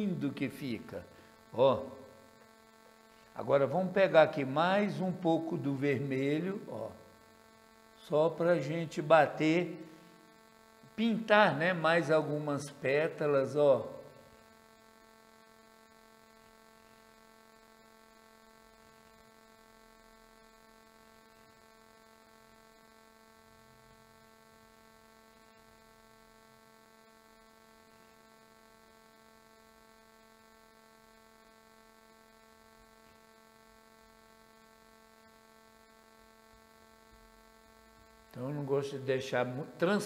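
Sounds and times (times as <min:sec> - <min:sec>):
faint electrical hum: 0:00.0 - 0:40.0.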